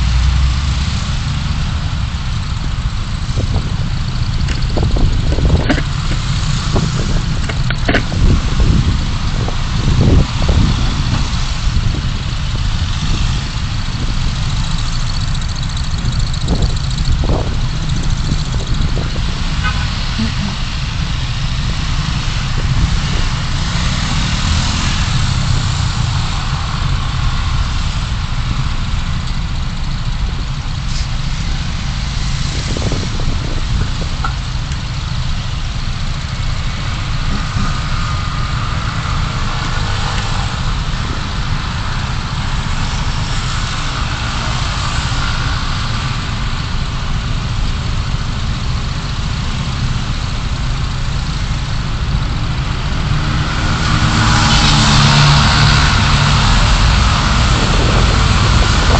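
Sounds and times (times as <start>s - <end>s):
car driving in traffic: 0.0s - 58.9s.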